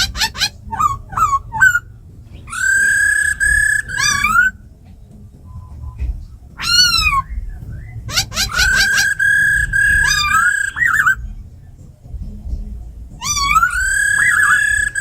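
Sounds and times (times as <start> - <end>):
laughingthrush whistled song: 0.0 - 15.0.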